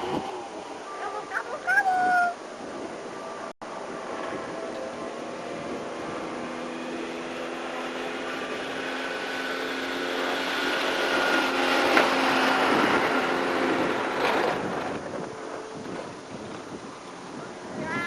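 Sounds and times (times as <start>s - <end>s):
propeller airplane passing overhead: 0.0s - 18.0s.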